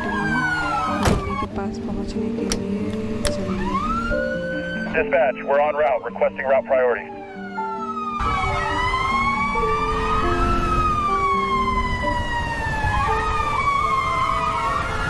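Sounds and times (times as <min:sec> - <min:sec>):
ambulance siren wailing: 0:00.0 - 0:01.5, 0:03.5 - 0:15.0
low rumble of road noise: 0:00.0 - 0:15.0.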